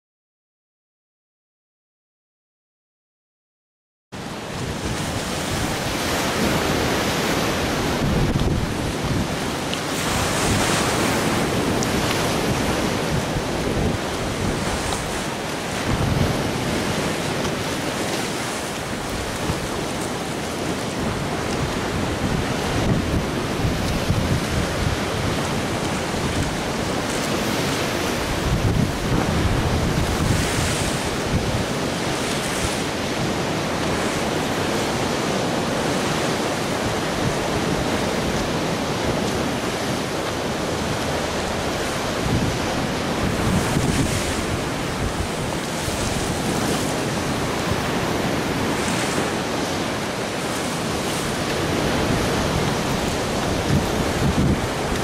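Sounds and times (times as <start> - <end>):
waves breaking: 4.2 - 55.0
wind buffeting microphone: 4.2 - 55.0.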